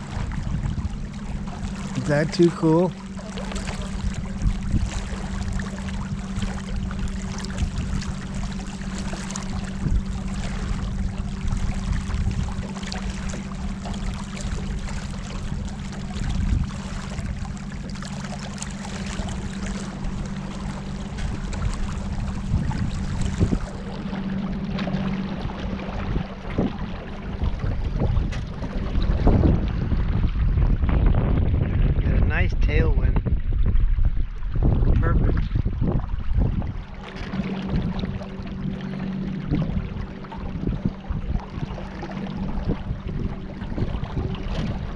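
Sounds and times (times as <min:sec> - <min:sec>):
boat motor running: 0:00.0 - 0:44.9
water rushing past hull: 0:00.0 - 0:44.9.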